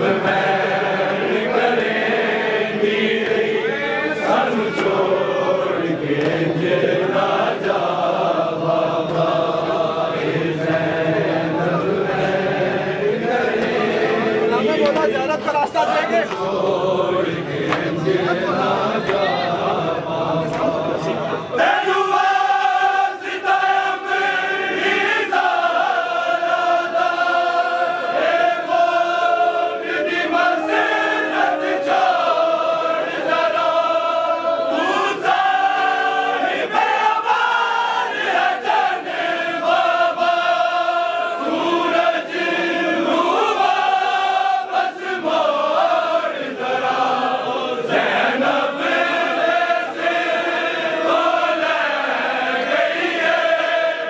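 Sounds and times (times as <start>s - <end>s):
men chanting in unison: 0.0s - 54.0s.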